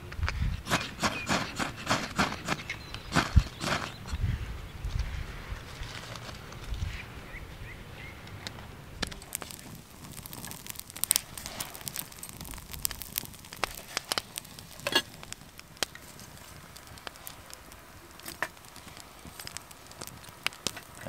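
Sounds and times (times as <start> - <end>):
wood fire crackling: 0.0 - 21.0
fire pops and snaps: 0.1 - 7.4, 8.1 - 21.0
low steady hiss: 2.6 - 21.0.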